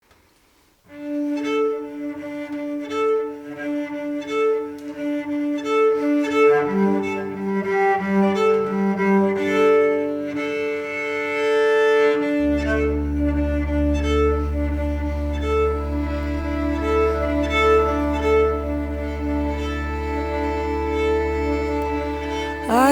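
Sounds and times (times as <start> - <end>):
cello: 0.9 - 22.9
violin melody: 0.9 - 22.9.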